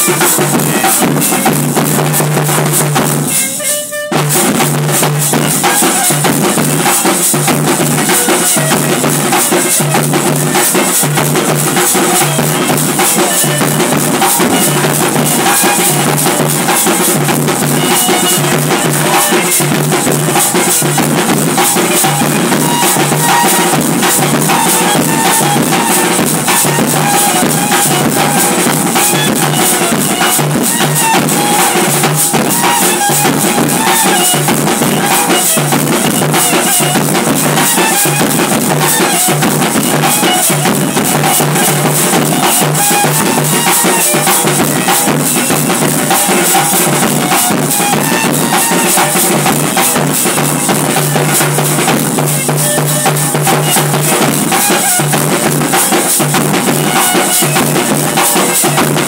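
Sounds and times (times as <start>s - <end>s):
side drums beating: 0.0s - 59.0s
wind instrument melody: 0.0s - 59.0s.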